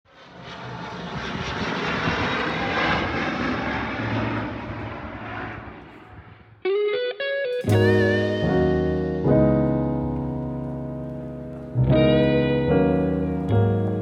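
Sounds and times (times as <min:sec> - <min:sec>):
aircraft engine passing overhead: 0:00.1 - 0:06.7, 0:07.7 - 0:14.0.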